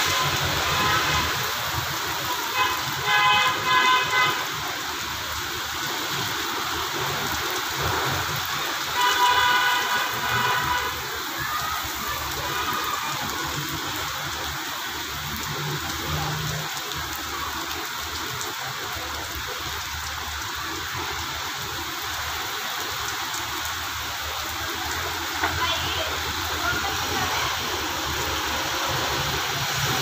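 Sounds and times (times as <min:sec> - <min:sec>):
heavy rain on wet road: 0:00.0 - 0:30.0.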